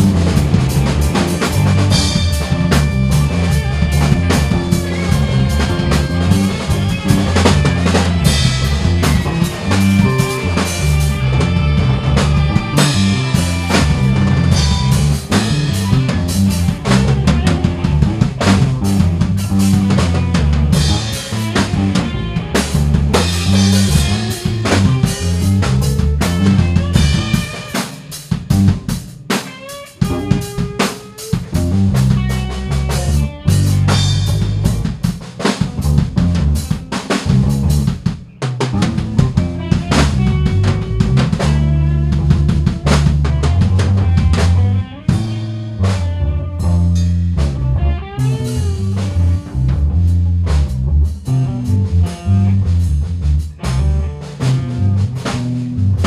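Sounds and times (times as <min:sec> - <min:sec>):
band playing: 0:00.0 - 0:56.0
drum kit with snare: 0:00.0 - 0:56.0.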